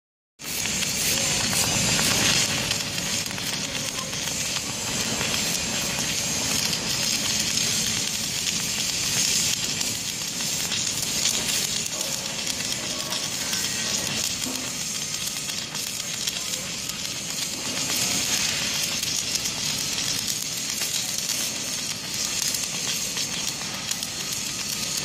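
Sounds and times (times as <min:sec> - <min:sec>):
arc welding hiss: 0:00.4 - 0:25.0.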